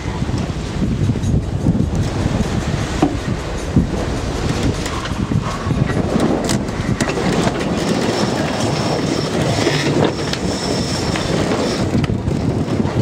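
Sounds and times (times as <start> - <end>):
water rushing along hull: 0.0 - 13.0
wind: 0.0 - 13.0.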